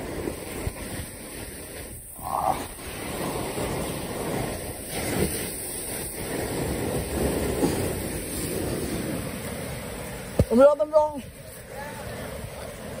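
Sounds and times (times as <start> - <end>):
surf breaking against rocks: 0.0 - 13.0
wind buffeting microphone: 0.0 - 13.0.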